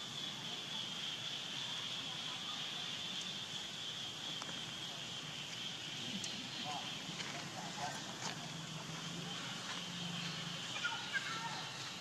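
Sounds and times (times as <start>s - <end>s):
insects droning: 0.0s - 12.0s
outdoor hiss: 0.0s - 12.0s.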